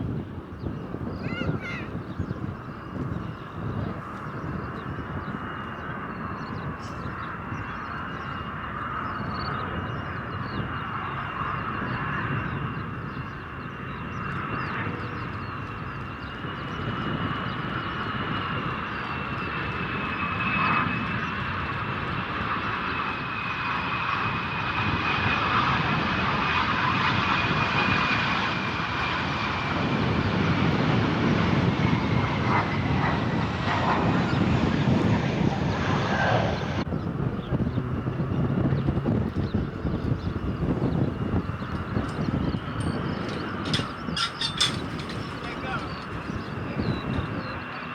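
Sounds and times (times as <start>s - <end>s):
jet engines passing: 0.0s - 47.9s.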